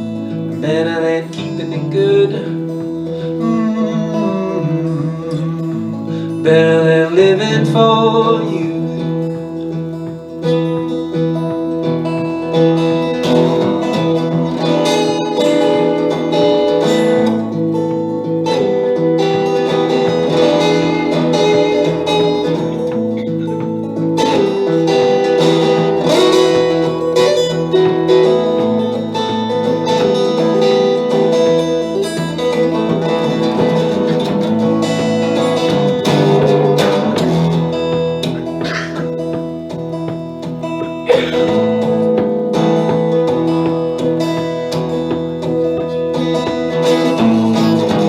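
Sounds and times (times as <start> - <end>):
folk-pop instrumental with guitar: 0.0 - 48.0.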